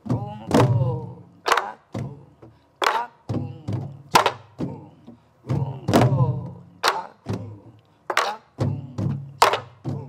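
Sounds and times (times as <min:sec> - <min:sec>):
barrel drums playing rhythm: 0:00.0 - 0:10.0.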